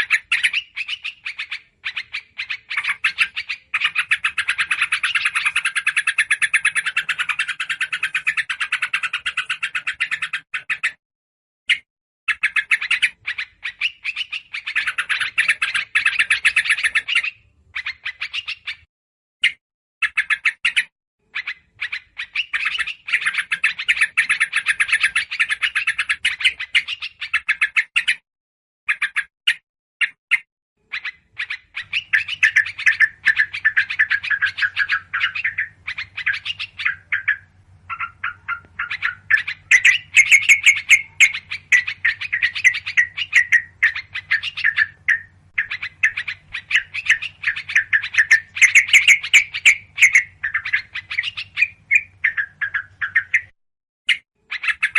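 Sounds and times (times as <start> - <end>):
small birds calling: 0.0 - 11.0, 11.7 - 28.2, 28.9 - 54.9.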